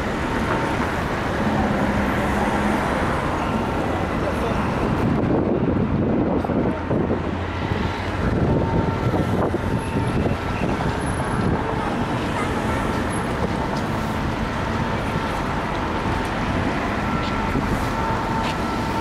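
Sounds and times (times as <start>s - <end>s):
passing cars: 0.0s - 19.0s.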